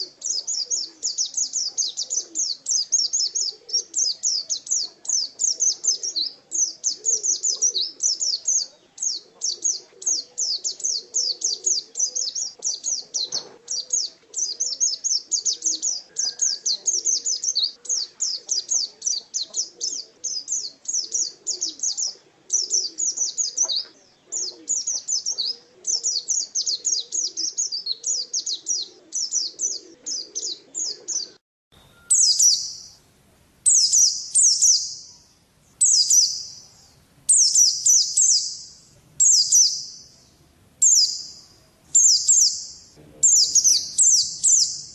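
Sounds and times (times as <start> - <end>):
songbird chattering song: 0.0 - 44.9.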